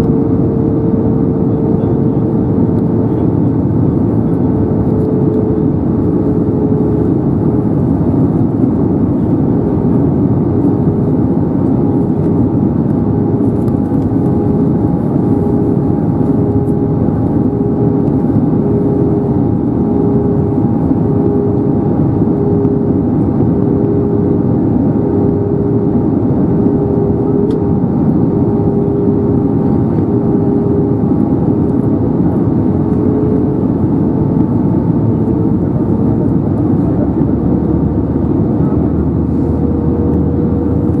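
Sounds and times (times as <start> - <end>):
airplane cabin engine and airflow noise: 0.0 - 41.0.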